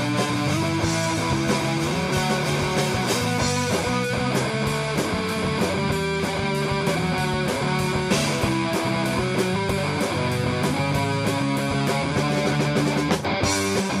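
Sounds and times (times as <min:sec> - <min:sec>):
steady drum beat: 0:00.0 - 0:14.0
strummed guitar: 0:00.0 - 0:14.0.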